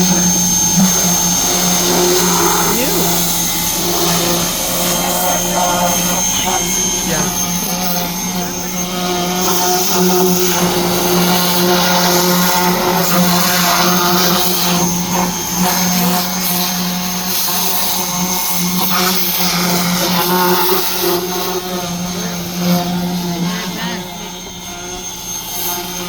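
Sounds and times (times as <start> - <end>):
pressure washer motor hum: 0.0 - 26.0.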